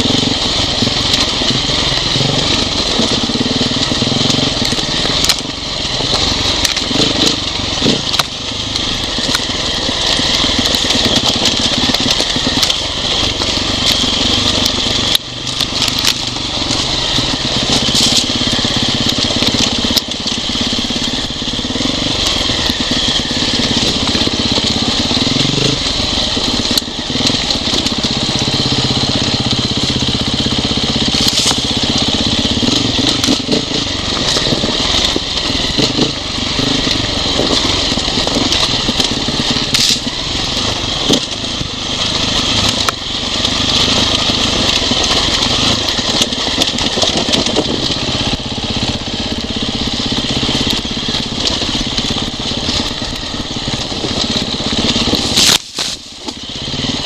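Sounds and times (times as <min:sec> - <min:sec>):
dirt bike engine: 0:00.0 - 0:57.0.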